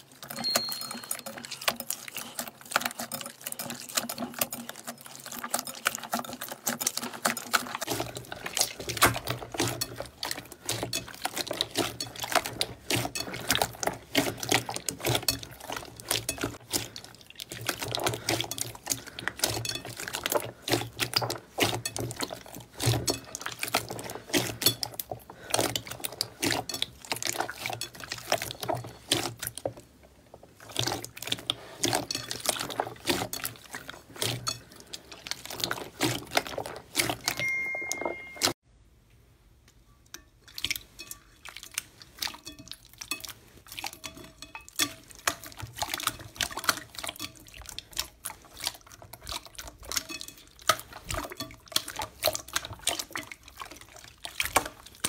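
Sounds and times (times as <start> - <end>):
slime squelching and popping: 0.0 - 38.6, 40.5 - 55.0.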